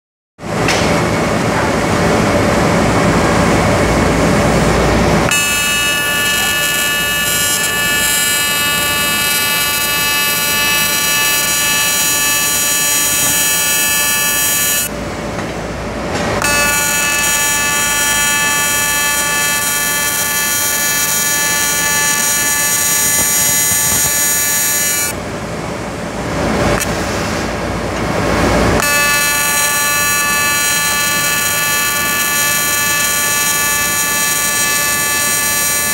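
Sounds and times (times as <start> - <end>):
welding arc buzzing: 3.5 - 15.0, 16.2 - 25.2, 26.3 - 27.1, 28.2 - 35.9.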